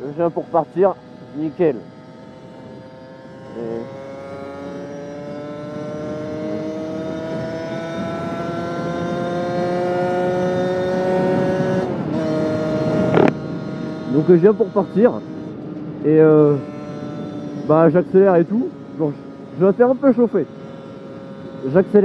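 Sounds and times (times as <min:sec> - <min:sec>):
two-stroke engine accelerating: 0:00.0 - 0:22.0.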